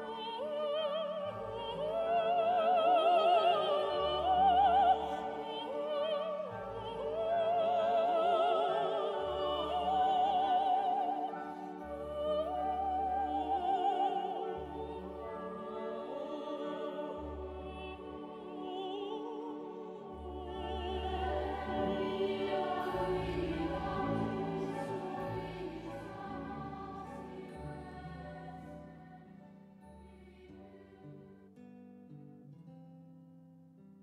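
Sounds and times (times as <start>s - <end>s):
operatic singing: 0.0s - 29.4s
orchestral accompaniment: 0.1s - 29.4s.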